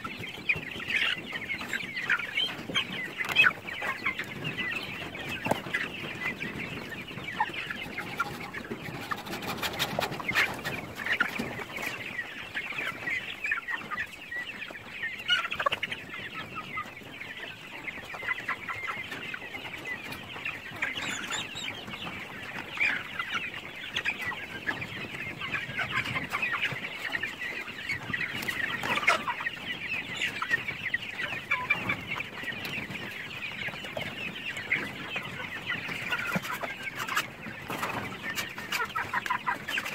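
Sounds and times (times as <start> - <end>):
chicks clucking and cheeping: 0.0 - 39.9.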